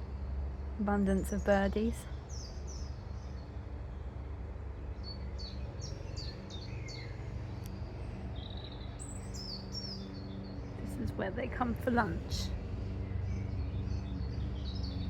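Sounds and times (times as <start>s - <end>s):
low background rumble: 0.0s - 15.0s
songbirds singing: 0.1s - 15.0s.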